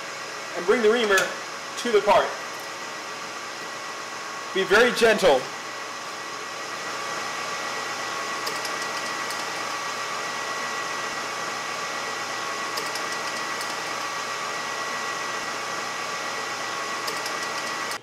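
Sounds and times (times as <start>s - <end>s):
metal lathe whining hum: 0.0s - 18.0s.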